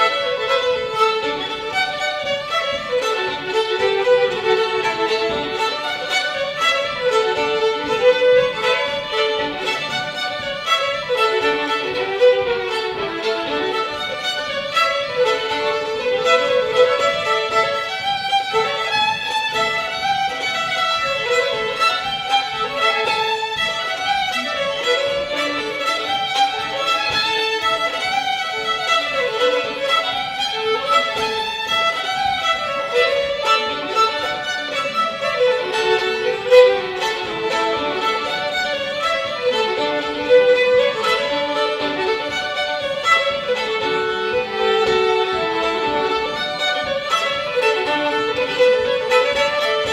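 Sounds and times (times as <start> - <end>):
fiddles playing a reel: 0.0 - 49.9.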